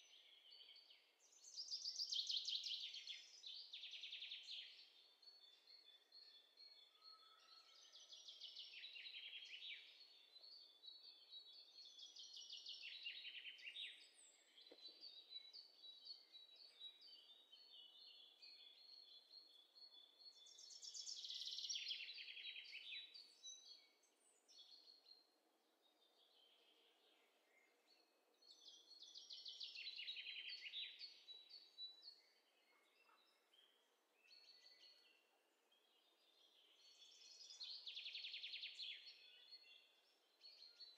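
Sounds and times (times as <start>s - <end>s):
songbirds chirping in trills: 0.0s - 40.9s.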